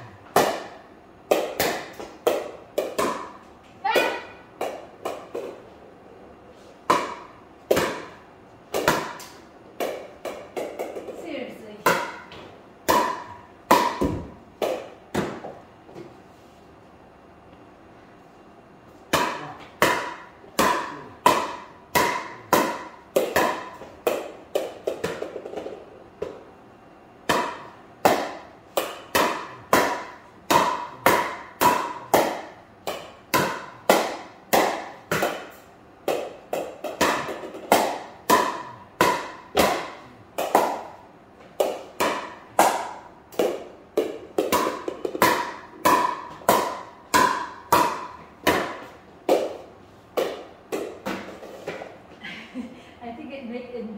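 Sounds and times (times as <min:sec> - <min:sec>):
paddle hitting pickleball: 0:00.3 - 0:05.6, 0:06.8 - 0:11.2, 0:11.8 - 0:16.1, 0:19.1 - 0:26.4, 0:27.2 - 0:52.0.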